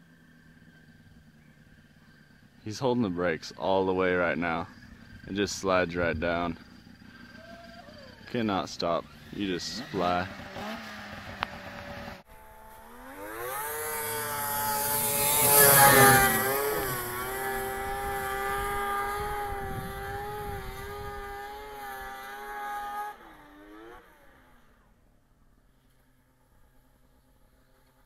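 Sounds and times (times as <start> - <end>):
snowmobile engine revving: 0.6 - 25.2.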